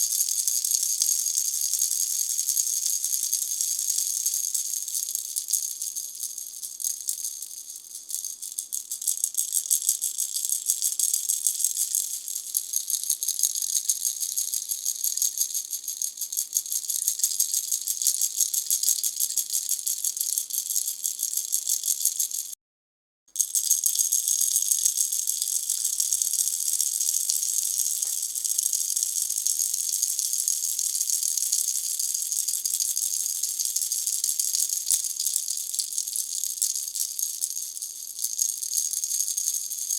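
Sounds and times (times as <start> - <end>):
baby rattle shaken: 0.0 - 22.6, 23.4 - 39.9.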